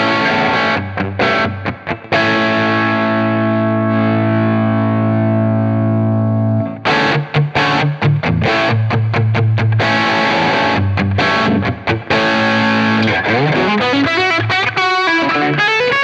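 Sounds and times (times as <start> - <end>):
crunchy electric guitar chords: 0.0 - 16.0.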